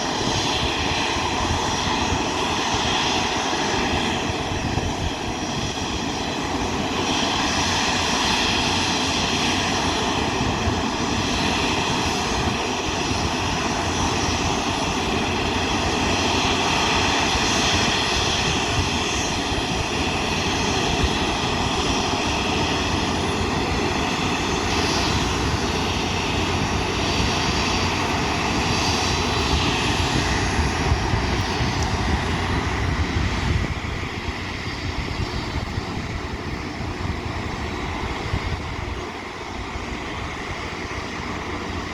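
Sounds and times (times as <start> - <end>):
jet engines running: 0.0 - 41.9.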